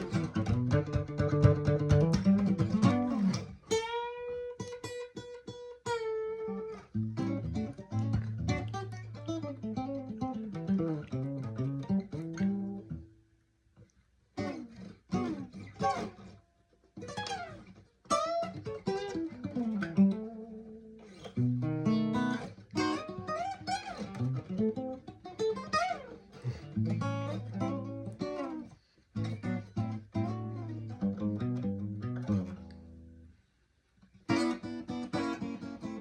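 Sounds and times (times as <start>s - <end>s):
acoustic guitar playing blues: 0.0s - 13.2s, 14.4s - 16.4s, 17.0s - 33.2s, 34.2s - 36.0s.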